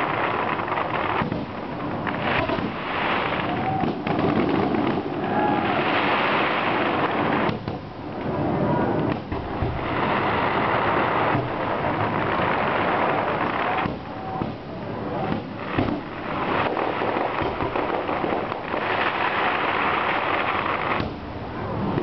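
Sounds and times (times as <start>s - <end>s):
crackling hiss of bursting shells: 0.0s - 8.4s, 9.0s - 22.0s
fireworks banging: 0.0s - 22.0s.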